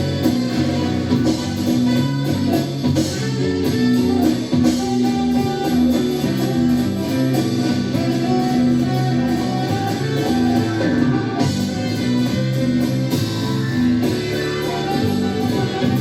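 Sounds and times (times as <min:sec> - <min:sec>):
live band with guitar: 0:00.0 - 0:16.0.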